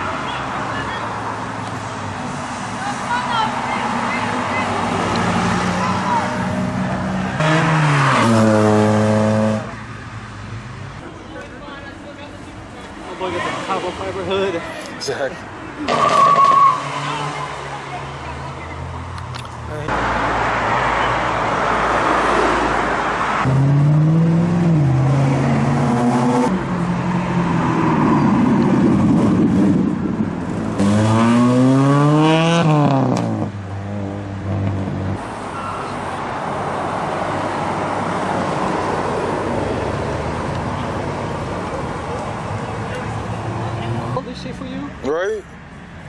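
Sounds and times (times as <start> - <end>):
car engines revving past: 0.0 - 10.9, 15.7 - 45.0
road noise of passing cars: 0.0 - 46.0.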